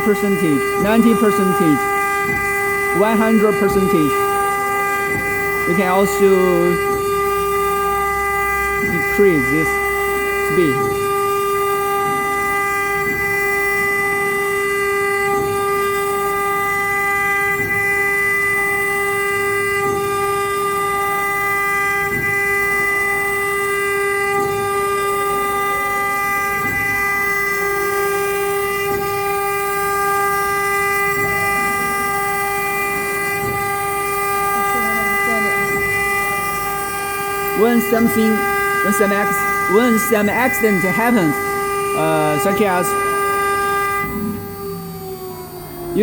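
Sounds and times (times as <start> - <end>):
router spindle whine: 0.0 - 46.0.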